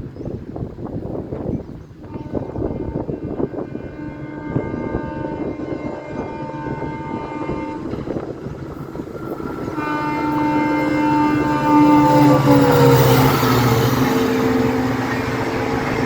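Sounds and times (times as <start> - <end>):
train rumbling: 0.0 - 16.0
locomotive horn chord: 2.0 - 8.5, 9.5 - 16.0.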